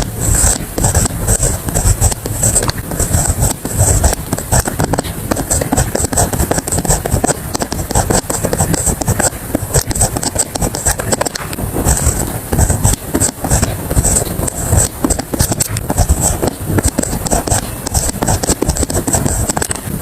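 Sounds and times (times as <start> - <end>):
pen writing on paper: 0.0 - 20.0.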